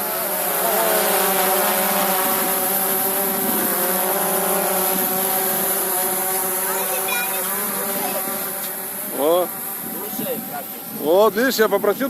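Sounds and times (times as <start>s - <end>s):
quadcopter drone buzzing: 0.0s - 12.0s.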